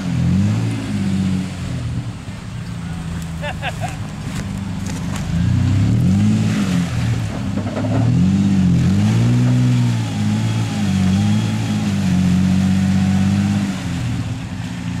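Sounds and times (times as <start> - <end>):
pickup engine revving: 0.0 - 15.0.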